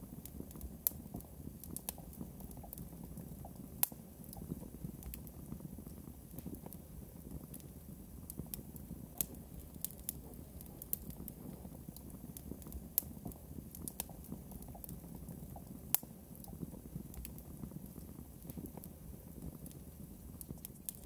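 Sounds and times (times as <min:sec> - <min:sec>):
crackling clicks and pops: 0:00.0 - 0:21.0.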